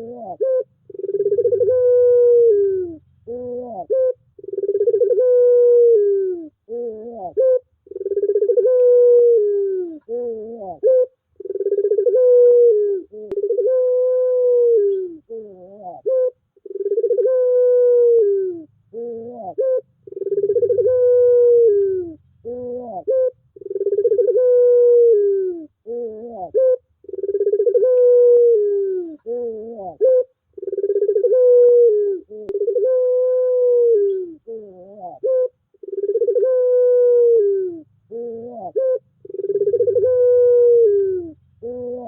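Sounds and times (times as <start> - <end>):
dove cooing: 0.0 - 42.0.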